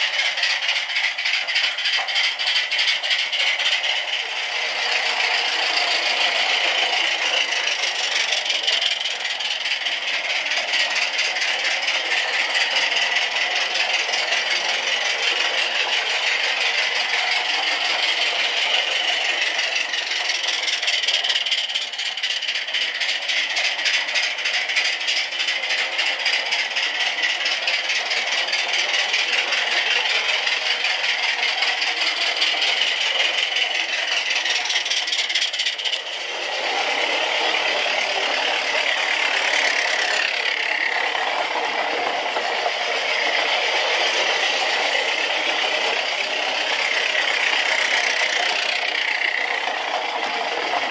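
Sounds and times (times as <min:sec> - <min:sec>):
steam locomotive chuffing: 0:00.0 - 0:50.9
wagons rattling on track: 0:00.0 - 0:50.9.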